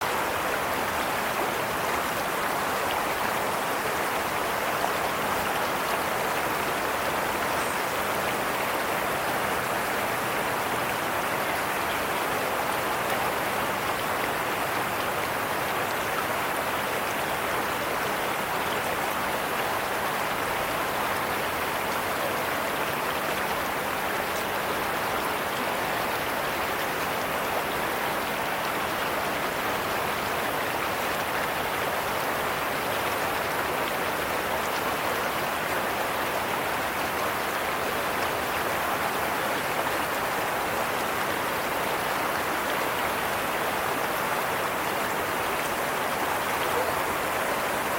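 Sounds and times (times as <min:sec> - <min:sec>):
rushing water: 0:00.0 - 0:47.9.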